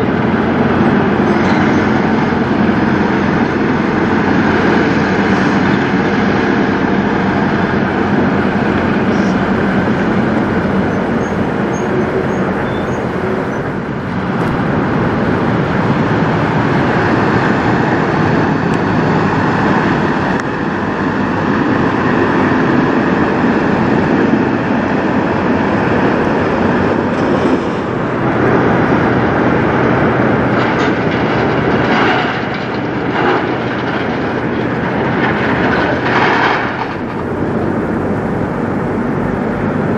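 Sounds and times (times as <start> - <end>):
trucks driving past rumbling: 0.0 - 39.9.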